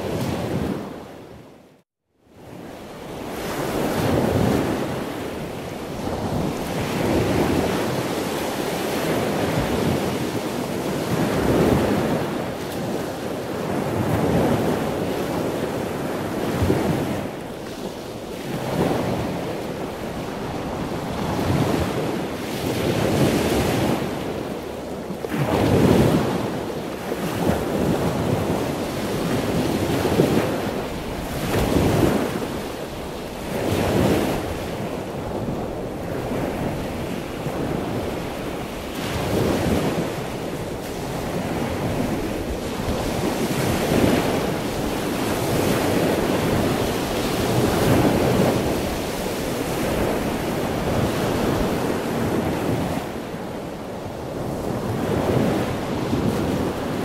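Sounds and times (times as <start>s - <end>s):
choppy sea waves: 0.0s - 57.0s
wind rushing over microphone: 2.3s - 57.0s.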